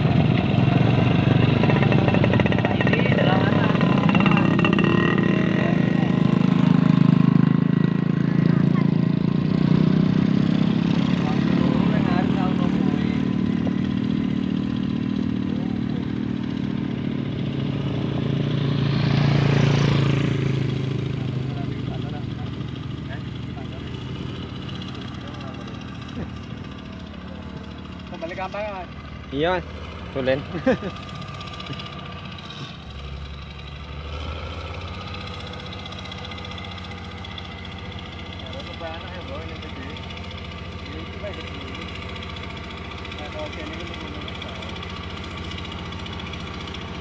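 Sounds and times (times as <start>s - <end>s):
vehicle engine running: 0.0s - 47.0s
vehicle passing close: 0.0s - 47.0s.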